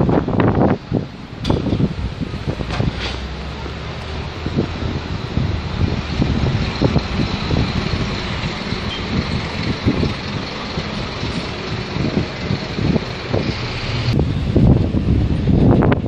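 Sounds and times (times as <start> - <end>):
coach engine close by: 0.0 - 16.0
vehicle engines running: 0.0 - 16.0
wind buffeting microphone: 0.0 - 16.0.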